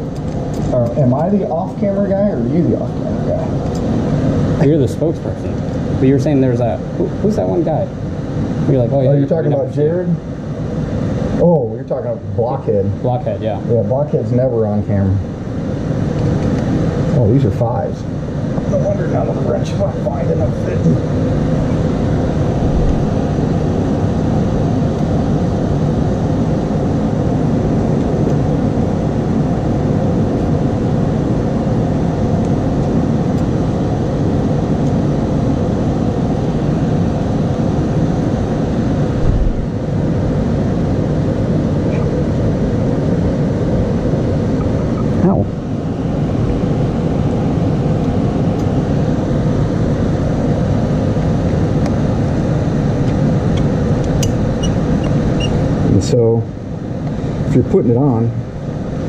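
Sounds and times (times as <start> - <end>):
loud rumbling noise: 0.0 - 59.0.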